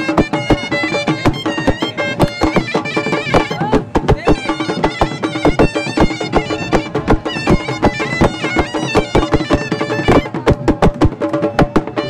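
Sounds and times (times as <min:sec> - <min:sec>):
quick drum beat: 0:00.0 - 0:12.0
reedy wind instrument melody: 0:00.0 - 0:12.0.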